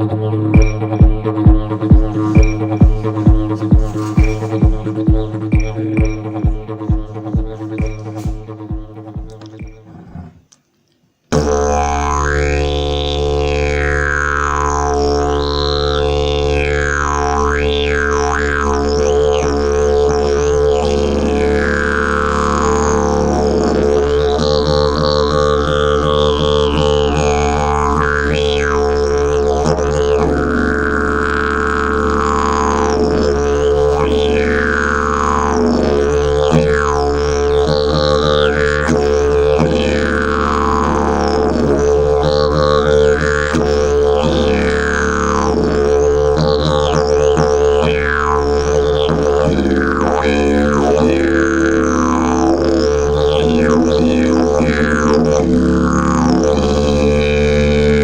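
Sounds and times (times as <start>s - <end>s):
didgeridoo drone: 0.0s - 10.5s, 11.3s - 58.0s.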